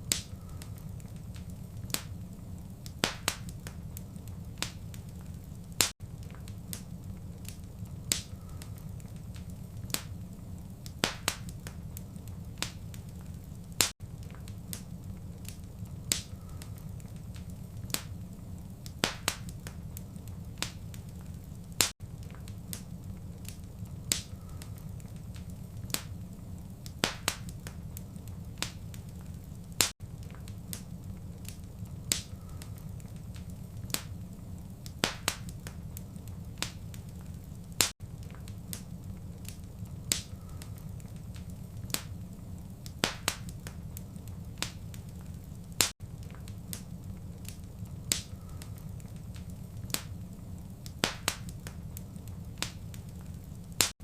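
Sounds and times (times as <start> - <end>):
low rumble of fire: 0.0 - 54.0
wood fire crackling and popping: 0.0 - 54.0.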